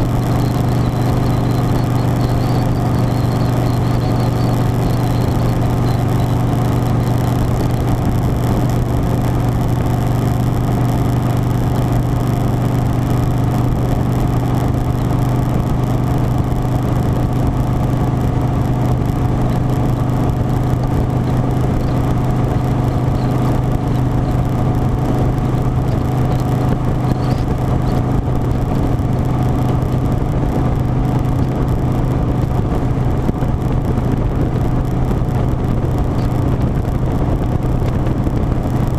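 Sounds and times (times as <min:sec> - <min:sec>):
motorcycle engine running steadily: 0:00.0 - 0:38.9
road and wind noise: 0:00.0 - 0:38.9.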